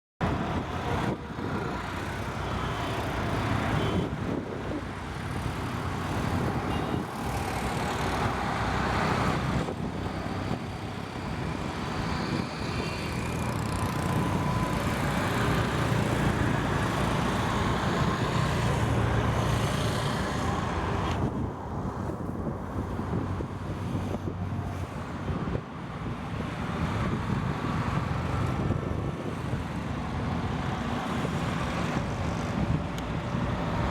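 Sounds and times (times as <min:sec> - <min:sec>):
broad rushing noise: 0:00.2 - 0:33.9.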